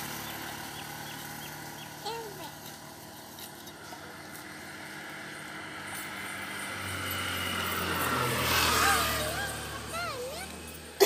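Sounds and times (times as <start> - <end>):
vehicle engine approaching: 0.0 - 11.0.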